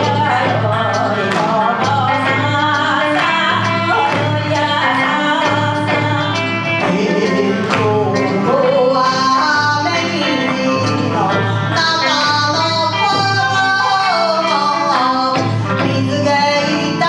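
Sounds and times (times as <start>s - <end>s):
band accompaniment: 0.0s - 17.0s
woman singing through a microphone: 0.0s - 17.0s.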